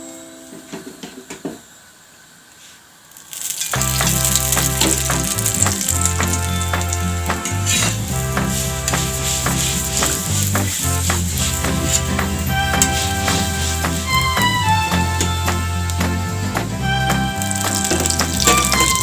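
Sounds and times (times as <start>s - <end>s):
background music with steady beat: 3.8s - 19.0s.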